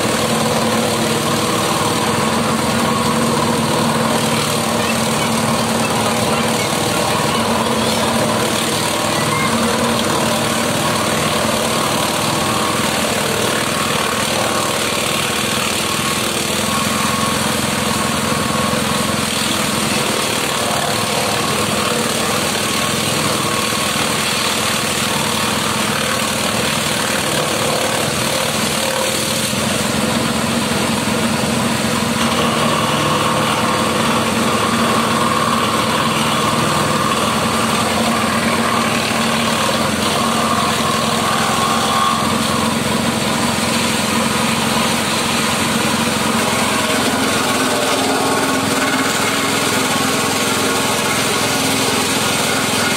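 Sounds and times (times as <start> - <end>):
grass chopper cutting stalks: 0.0 - 52.9.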